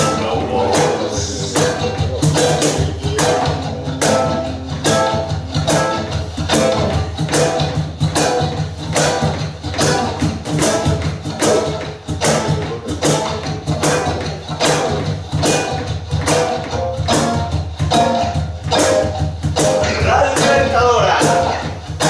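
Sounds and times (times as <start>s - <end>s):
live band playing: 0.0s - 22.0s
steady bass line: 0.0s - 22.0s.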